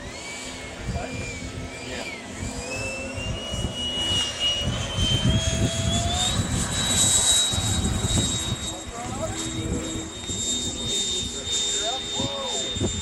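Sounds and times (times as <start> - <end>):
low gusty rumble: 0.0 - 13.0
small turbine engine whine: 0.0 - 13.0.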